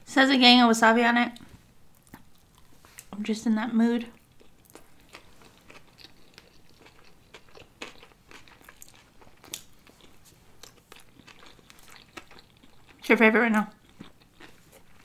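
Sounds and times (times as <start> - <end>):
people chewing crunchy food: 1.9 - 3.2, 4.1 - 15.0.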